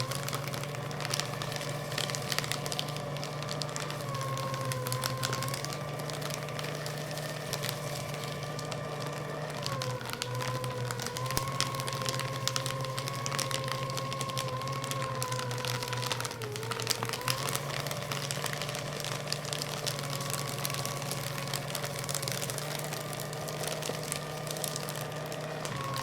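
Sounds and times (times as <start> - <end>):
paper crackling in shredder: 0.0 - 26.0
paper shredder motor humming: 0.0 - 26.0.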